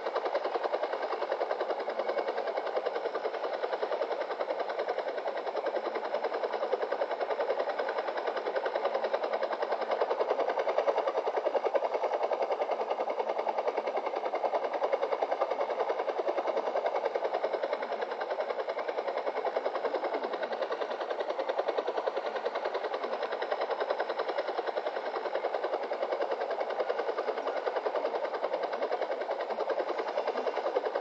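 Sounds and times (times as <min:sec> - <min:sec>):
helicopter rotor chopping: 0:00.0 - 0:31.0.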